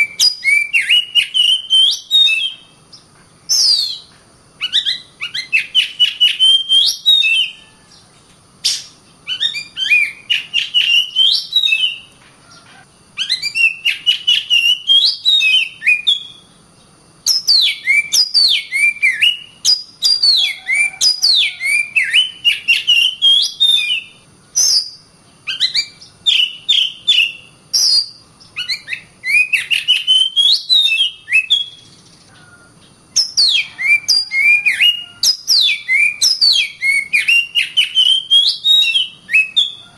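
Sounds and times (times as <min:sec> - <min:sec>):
bird singing whistles: 0:00.0 - 0:12.1, 0:13.2 - 0:16.6, 0:17.2 - 0:32.1, 0:33.2 - 0:39.9.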